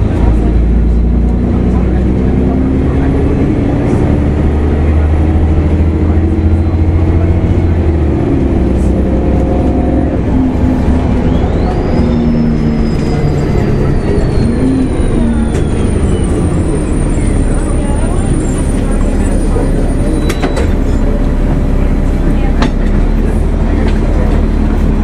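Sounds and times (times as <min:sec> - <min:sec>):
bus diesel engine rumbling: 0:00.0 - 0:25.0
high transmission whine: 0:00.0 - 0:25.0.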